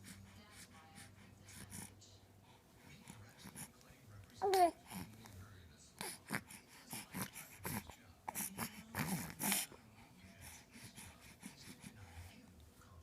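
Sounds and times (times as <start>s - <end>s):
sniffs and snorting breaths: 0.0s - 4.1s, 4.7s - 13.0s
quiet breathing: 0.0s - 13.0s.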